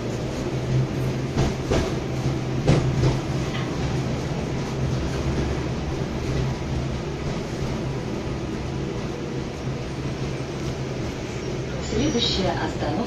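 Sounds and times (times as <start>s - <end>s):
tram low hum: 0.0s - 13.0s
wheel-on-rail noise: 0.0s - 13.0s.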